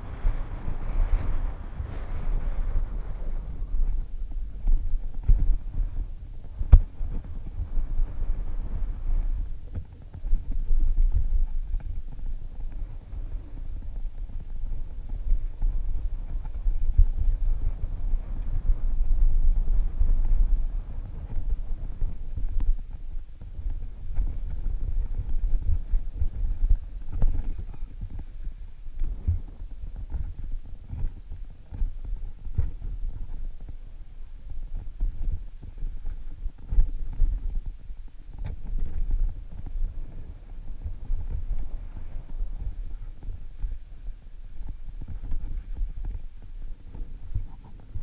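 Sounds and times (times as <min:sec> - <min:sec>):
bike rumbling on trail: 0:00.0 - 0:48.0
wind buffeting microphone: 0:00.0 - 0:48.0.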